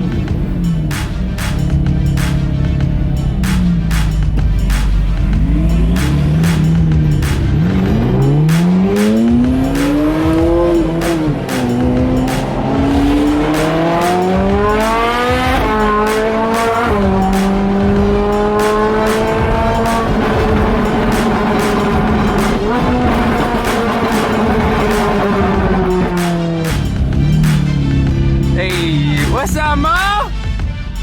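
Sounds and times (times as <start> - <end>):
sports car engine accelerating: 0.0 - 30.0
music with steady beat: 0.0 - 31.0.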